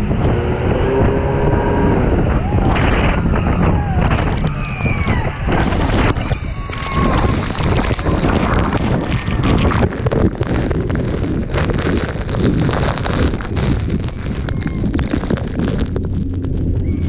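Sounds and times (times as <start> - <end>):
boat engine drone: 0.0 - 10.7, 13.4 - 17.0
wind buffeting microphone: 0.0 - 17.0.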